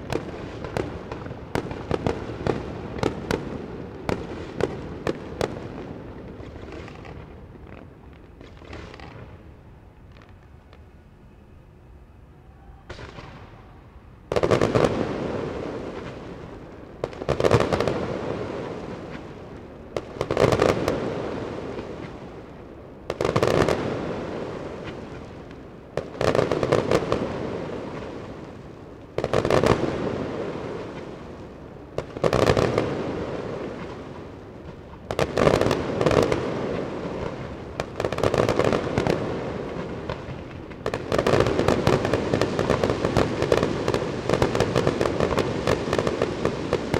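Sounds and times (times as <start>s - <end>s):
fireworks bangs: 0.0s - 10.6s, 12.8s - 31.3s, 31.9s - 46.9s.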